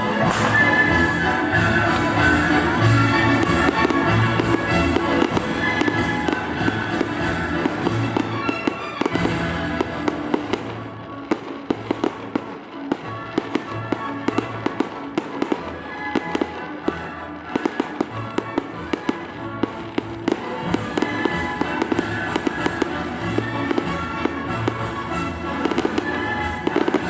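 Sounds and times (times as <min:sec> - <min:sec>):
fireworks bangs and crackling: 0:00.0 - 0:27.0
orchestral music: 0:00.0 - 0:27.0.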